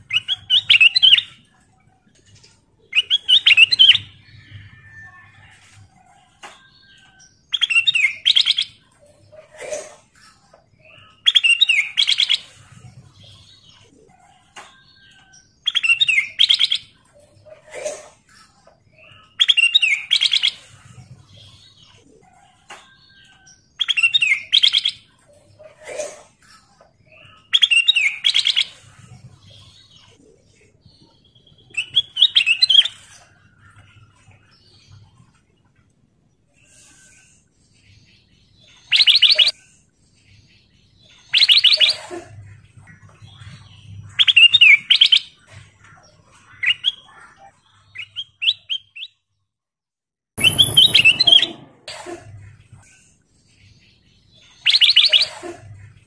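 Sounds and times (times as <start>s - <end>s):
bird singing warbled phrases: 0.0s - 4.7s, 6.5s - 9.6s, 10.7s - 13.9s, 14.7s - 17.4s, 18.8s - 25.6s, 26.7s - 49.3s, 50.4s - 51.8s, 52.4s - 56.0s.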